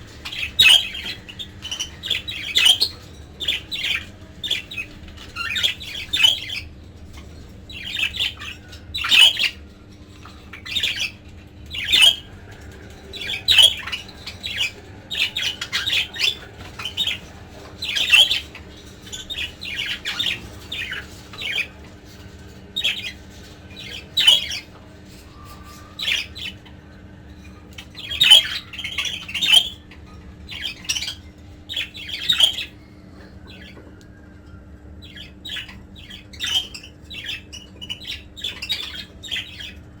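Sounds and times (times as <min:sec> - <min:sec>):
budgerigars squawking and chirping: 0:00.0 - 0:33.9, 0:35.0 - 0:40.0.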